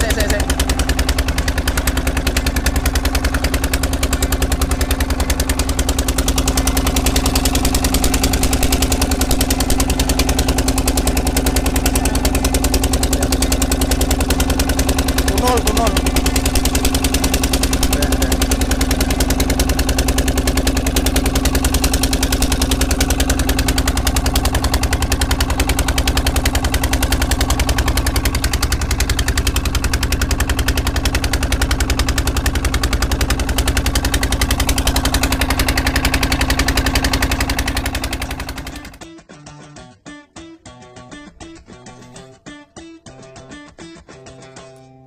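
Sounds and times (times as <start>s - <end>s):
boat engine running: 0.0s - 39.3s.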